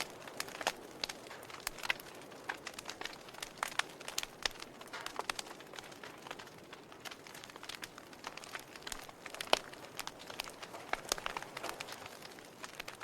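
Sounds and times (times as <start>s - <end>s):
logs crackling in fireplace: 0.0s - 13.0s.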